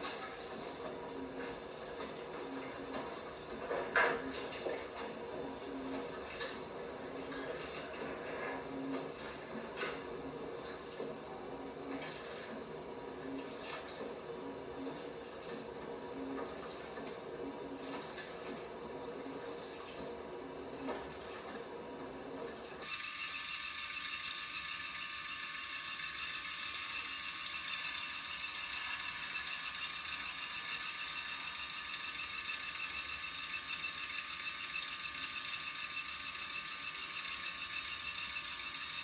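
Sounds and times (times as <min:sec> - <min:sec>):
washer motor whirring and whining: 0:00.0 - 0:39.0
water filling washer: 0:00.0 - 0:39.0.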